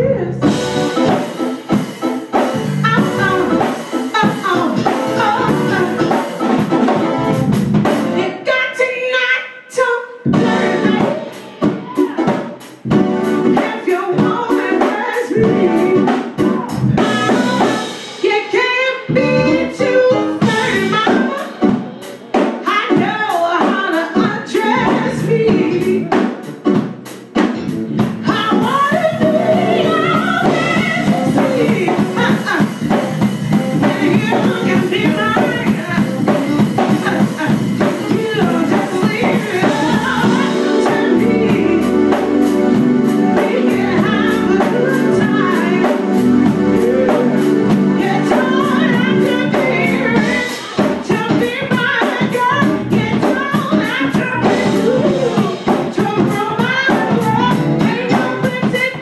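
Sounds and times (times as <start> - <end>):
woman singing: 0.0 - 1.2, 2.8 - 6.4, 8.2 - 12.4, 13.3 - 21.8, 22.6 - 26.4, 28.2 - 59.0
drum kit: 0.0 - 8.4, 10.2 - 59.0
keyboard chords: 0.0 - 8.5, 10.2 - 59.0.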